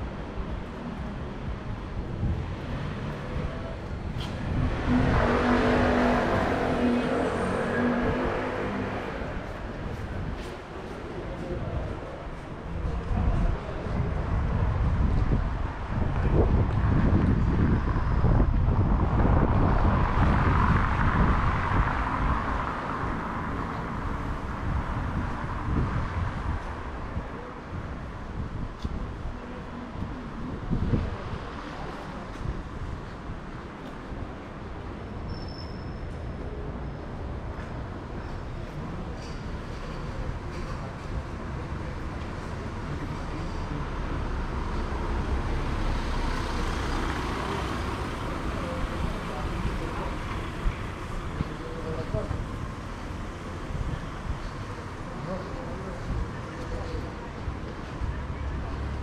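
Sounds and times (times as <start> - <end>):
wind rumbling on microphone: 0.0 - 35.0, 43.9 - 59.0
city street noise: 0.0 - 59.0.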